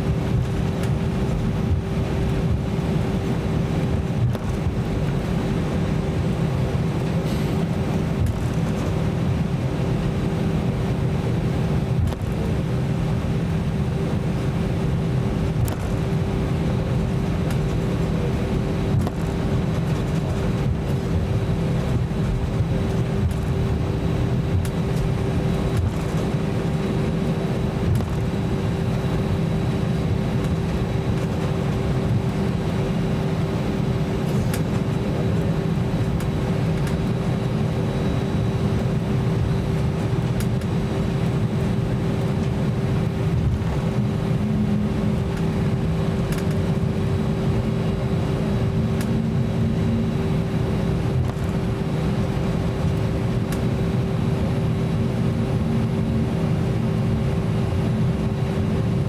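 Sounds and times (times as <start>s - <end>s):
aircraft cabin rumble: 0.0s - 59.0s
steady hum tone: 0.0s - 59.0s.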